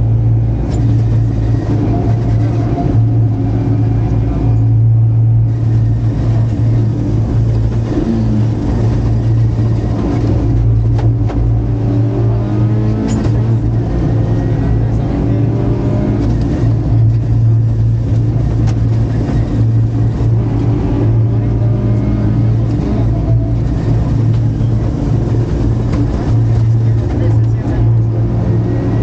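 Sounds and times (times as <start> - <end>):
car engine running hard: 0.0 - 29.0.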